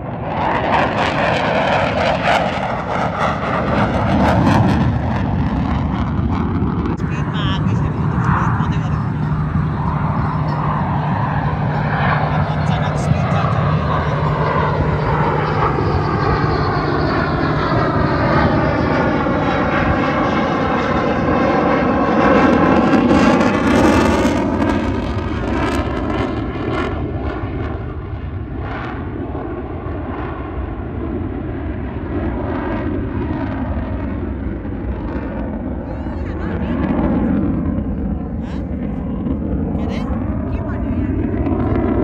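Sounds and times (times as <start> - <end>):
aircraft flying low overhead: 0.0 - 42.0.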